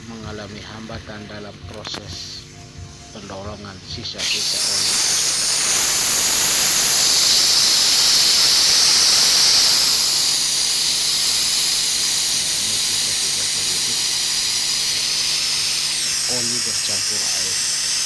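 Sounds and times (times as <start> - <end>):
gas hissing through pipes: 0.0 - 18.0.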